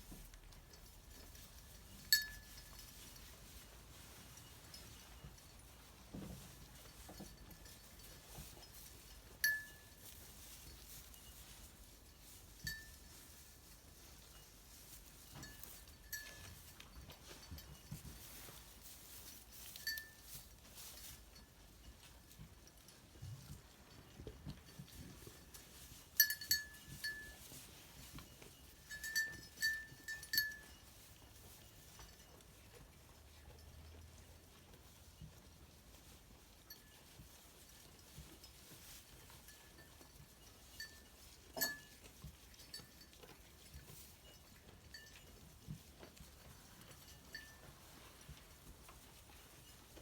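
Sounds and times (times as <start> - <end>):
animals rustling in hay: 0.0 - 50.0
sheep bell clinking: 0.1 - 50.0.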